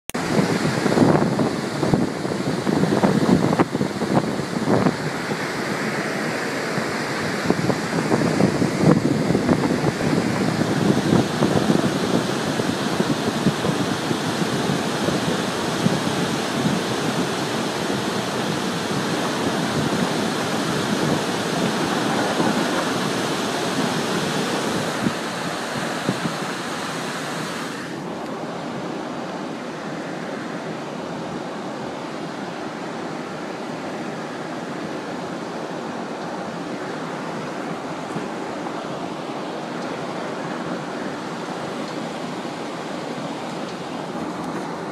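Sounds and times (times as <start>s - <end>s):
rushing roar of mud flow: 0.1s - 44.9s.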